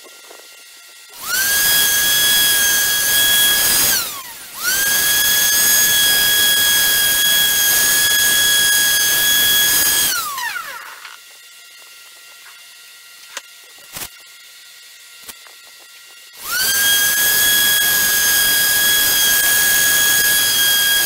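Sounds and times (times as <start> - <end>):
power tool motor whine: 0.0 - 21.0.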